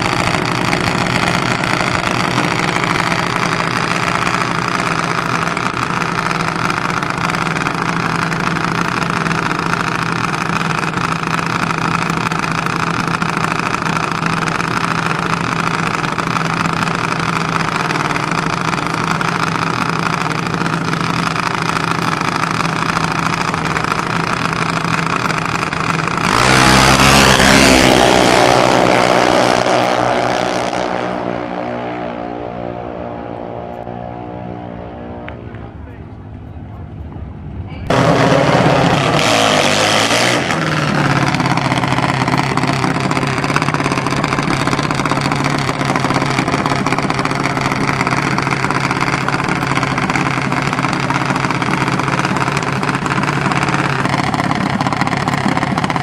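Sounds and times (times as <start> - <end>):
dragster engine idling: 0.0 - 32.2, 34.6 - 56.0
dragster engine at full throttle: 0.0 - 56.0.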